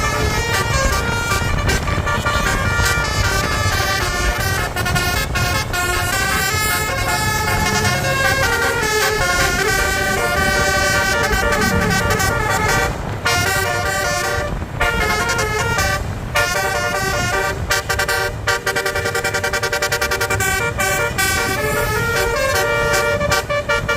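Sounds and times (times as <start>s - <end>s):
multi-tone bus horn melody: 0.0s - 23.9s.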